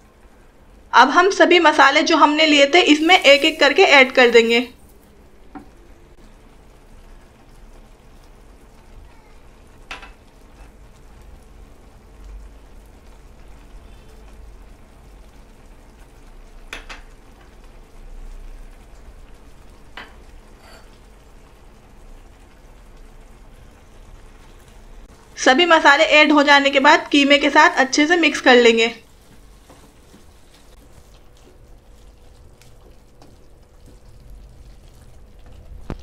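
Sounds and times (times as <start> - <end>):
meat sizzling in a pan: 2.2 - 5.5, 6.3 - 25.4, 26.6 - 36.0.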